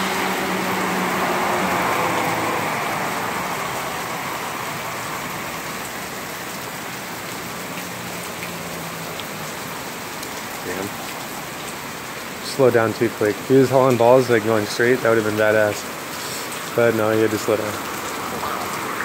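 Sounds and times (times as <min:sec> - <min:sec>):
truck engine hum: 0:00.0 - 0:15.4
heavy rain: 0:00.0 - 0:19.0
tyres hissing through water: 0:00.0 - 0:19.0.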